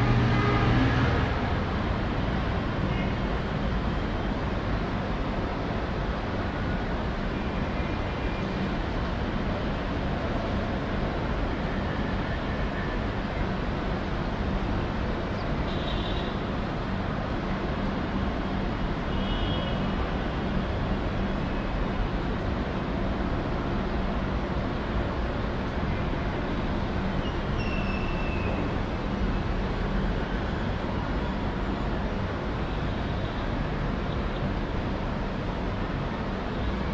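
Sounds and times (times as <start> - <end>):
city traffic noise: 0.0 - 36.9.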